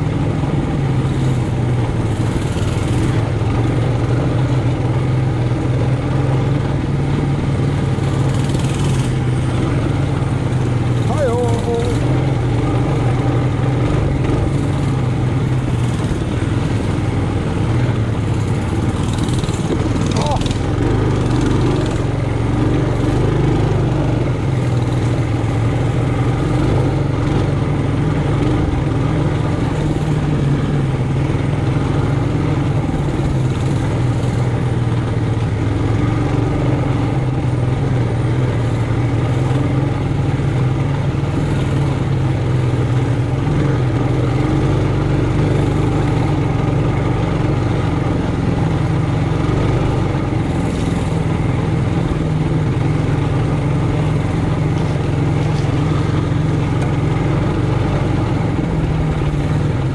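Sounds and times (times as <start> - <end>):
mini bike engine running: 0.0 - 59.9.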